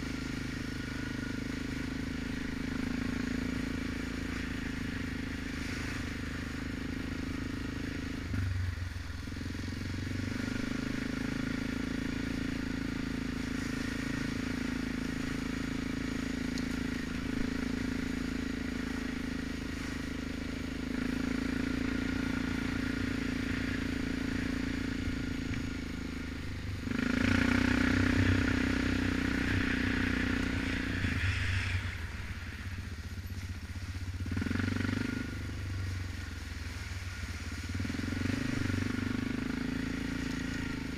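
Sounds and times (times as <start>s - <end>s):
quad bike engine running: 0.0s - 40.9s.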